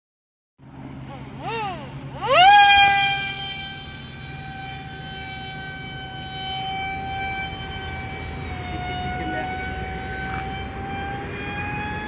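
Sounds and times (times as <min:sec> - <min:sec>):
electric motor whining: 0:01.0 - 0:12.0.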